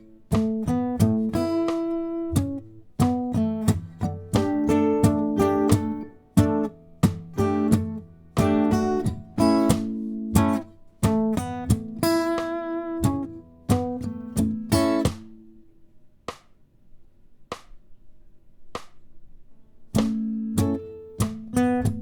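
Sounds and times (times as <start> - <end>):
acoustic guitar strumming chords: 0.0 - 15.6, 20.0 - 22.0.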